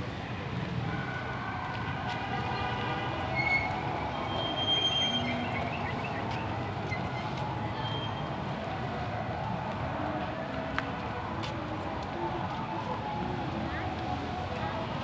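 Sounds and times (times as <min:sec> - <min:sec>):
city street traffic noise: 0:00.0 - 0:15.0.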